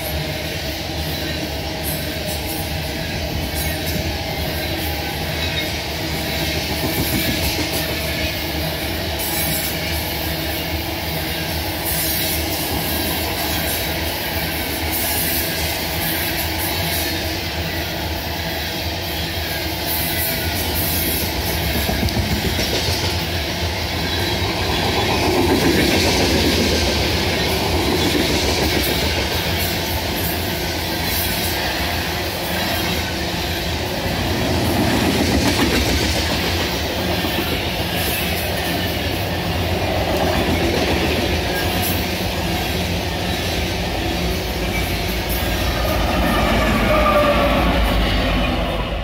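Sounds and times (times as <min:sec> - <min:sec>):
hopper cars rail rumble: 0:00.0 - 0:49.0.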